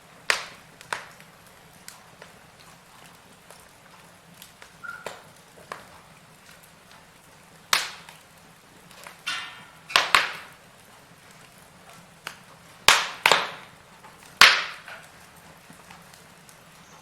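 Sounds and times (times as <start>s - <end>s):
firewood crackling: 0.0s - 17.0s
wood fire pops and snaps: 0.0s - 17.0s.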